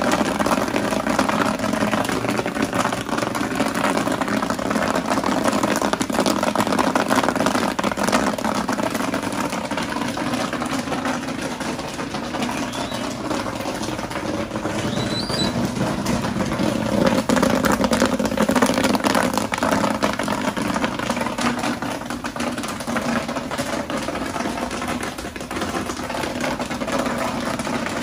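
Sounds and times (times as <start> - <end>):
popcorn kernels popping: 0.0 - 28.0
popcorn machine motor hum: 0.0 - 28.0.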